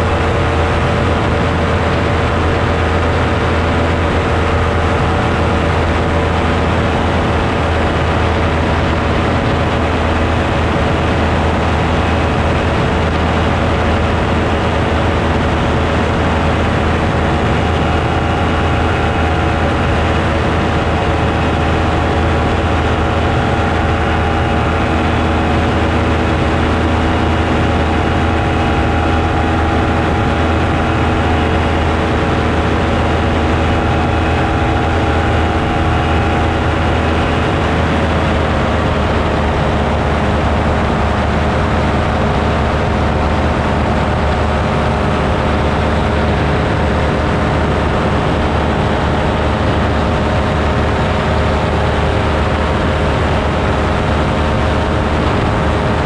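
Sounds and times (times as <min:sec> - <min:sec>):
small aircraft engine drone: 0:00.0 - 0:56.0.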